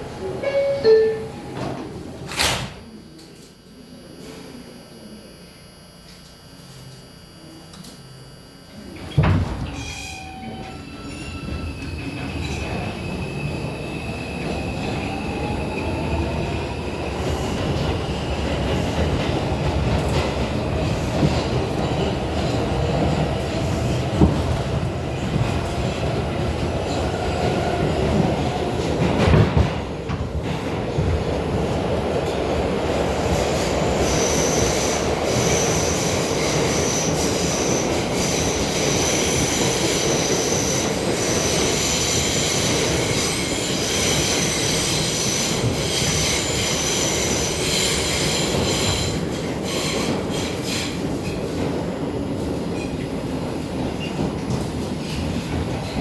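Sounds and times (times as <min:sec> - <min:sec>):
subway wheel rumble: 0:00.0 - 0:56.0.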